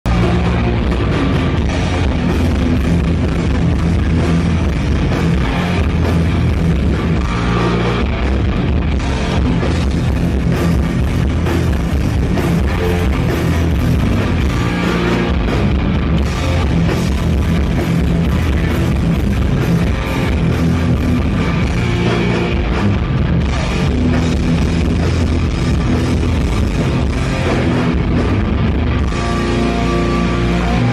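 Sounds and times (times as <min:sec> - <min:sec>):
distorted electric guitars: 0:00.0 - 0:30.9
drum kit: 0:00.1 - 0:30.9.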